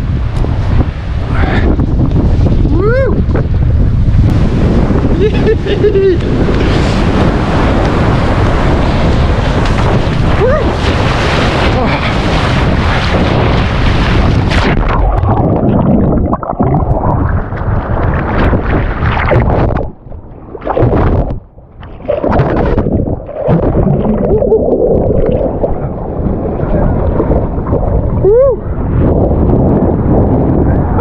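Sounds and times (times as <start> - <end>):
surf and water splashing: 0.0 - 29.4
wind buffeting microphone: 0.0 - 31.0.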